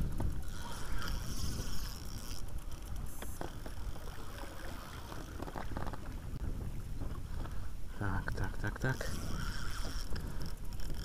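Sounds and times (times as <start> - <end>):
water sloshing against boat: 0.0 - 11.0
wind buffeting microphone: 0.0 - 11.0.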